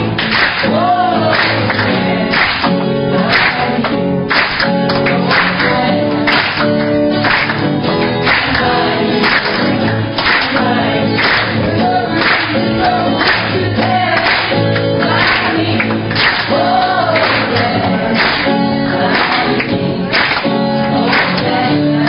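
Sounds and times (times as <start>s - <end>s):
group singing: 0.0s - 22.0s
guitar: 0.0s - 22.0s
hands clapping: 0.0s - 22.0s.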